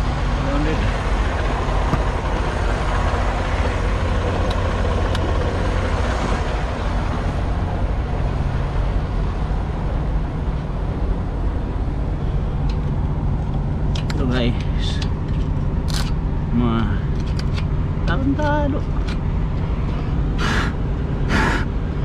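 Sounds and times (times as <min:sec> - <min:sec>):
road and tyre noise: 0:00.0 - 0:22.0
truck diesel engine running: 0:00.0 - 0:22.0.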